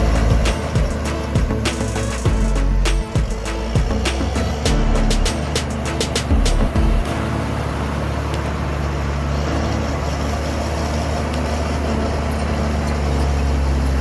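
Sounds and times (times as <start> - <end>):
heavy diesel machinery droning: 0.0 - 14.0.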